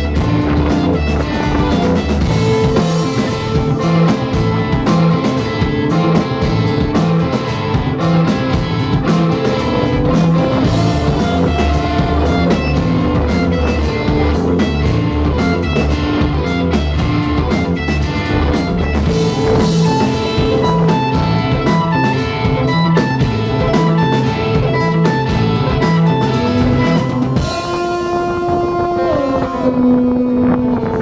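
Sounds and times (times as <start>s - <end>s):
drum kit beating: 0.0s - 28.6s
bass guitar: 0.0s - 31.0s
electric guitars: 0.0s - 31.0s.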